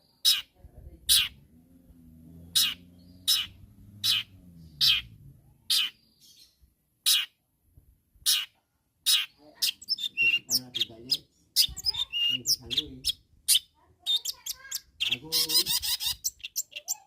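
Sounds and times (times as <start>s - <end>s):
bird harsh calls: 0.1s - 1.4s, 2.4s - 7.4s, 8.2s - 17.0s.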